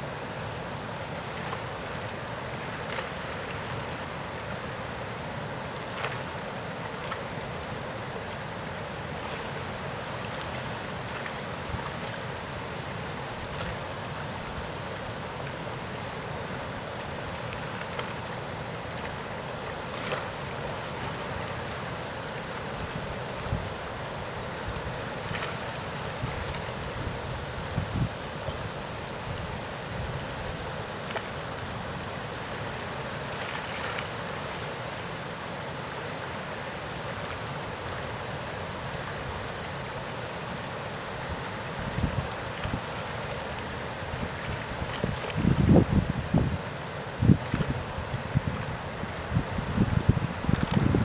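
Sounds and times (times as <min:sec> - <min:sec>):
outdoor background hiss: 0:00.0 - 0:51.0.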